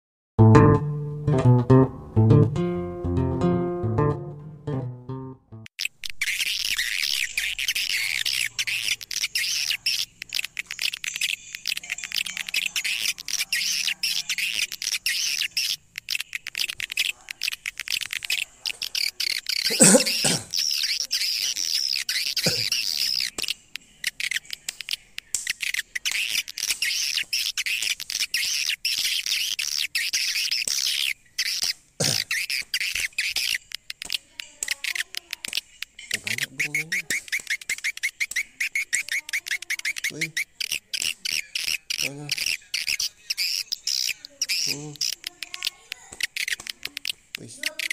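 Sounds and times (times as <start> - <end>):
rapid high twittering chirps: 5.8 - 47.9.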